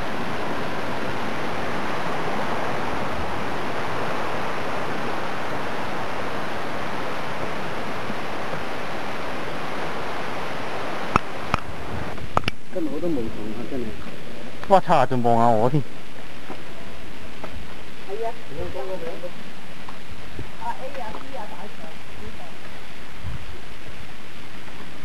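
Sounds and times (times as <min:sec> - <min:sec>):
fast-flowing water rushing: 0:00.0 - 0:25.0.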